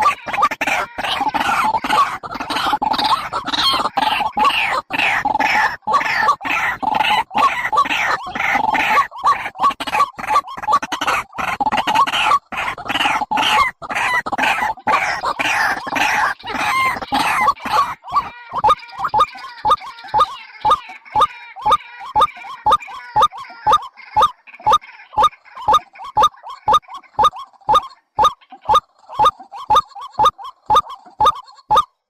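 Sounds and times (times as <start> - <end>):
bird calls sliding downward: 0.0 - 32.0.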